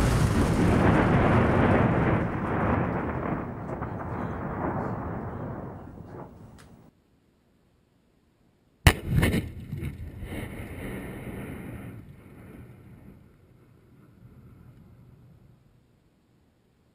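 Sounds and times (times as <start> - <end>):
explosion bang and rumble: 0.0 - 6.9, 8.9 - 15.6
explosion rumble: 0.0 - 6.9, 8.9 - 15.7.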